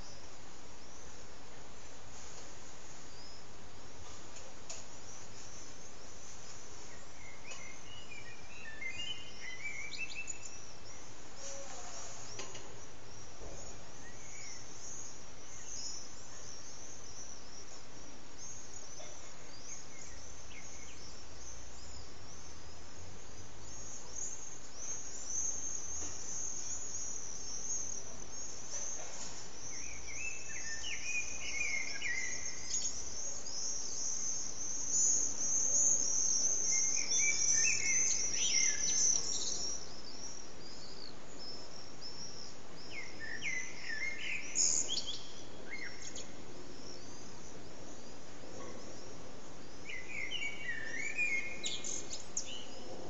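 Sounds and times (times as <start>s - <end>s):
blackbird singing fluty phrases: 5.0s - 53.0s.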